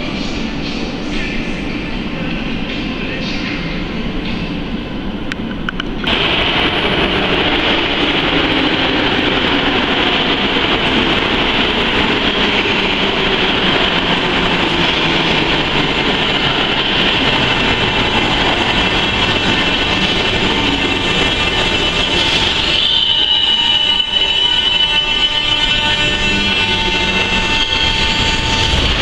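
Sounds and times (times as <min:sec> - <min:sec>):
metro train rumbling: 0:00.0 - 0:29.0.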